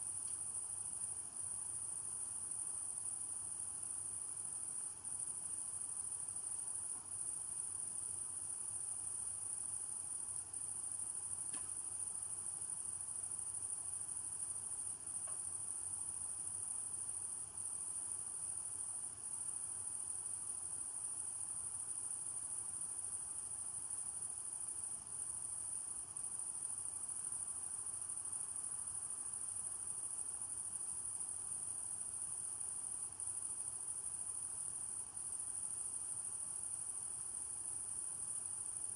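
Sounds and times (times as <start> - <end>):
high-pitched cricket chorus: 0.0 - 38.9.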